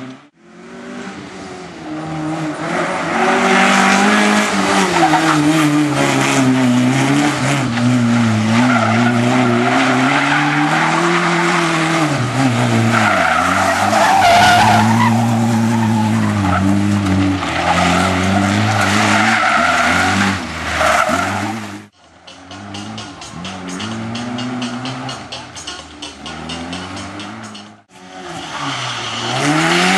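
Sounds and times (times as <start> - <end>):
car engine revving: 0.0 - 29.9
tyre and road noise: 0.0 - 29.9
tyres skidding: 0.0 - 29.9.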